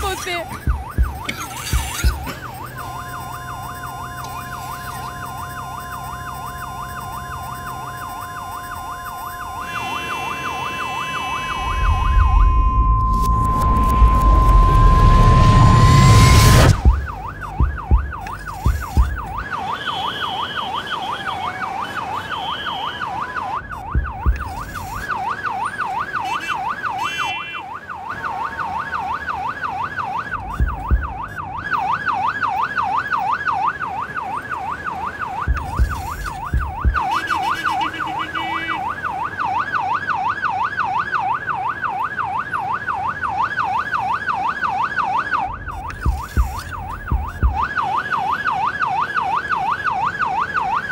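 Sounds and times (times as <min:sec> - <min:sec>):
ambulance siren wailing: 0:00.0 - 0:50.9.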